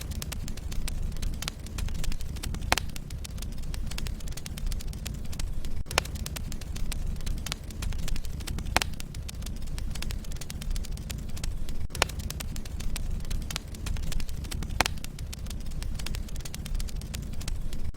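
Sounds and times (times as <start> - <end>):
fire crackling and popping: 0.0 - 17.9
fire rumbling: 0.0 - 17.9.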